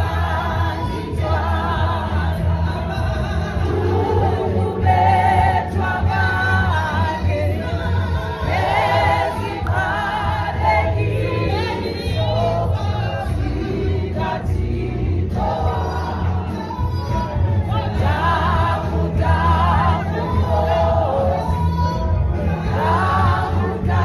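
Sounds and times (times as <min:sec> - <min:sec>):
bass accompaniment: 0:00.0 - 0:24.0
gospel choir singing: 0:00.0 - 0:24.0.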